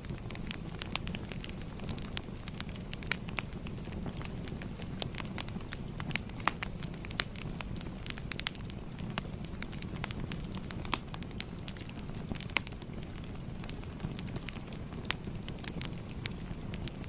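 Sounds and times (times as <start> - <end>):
fire burning rumble: 0.0 - 17.0
fire popping and snapping: 0.0 - 17.0.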